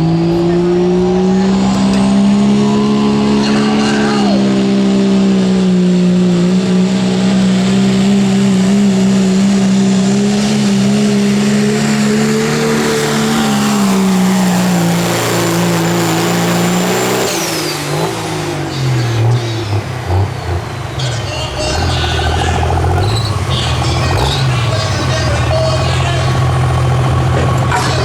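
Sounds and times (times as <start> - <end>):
diesel truck engine at full throttle: 0.0 - 28.0.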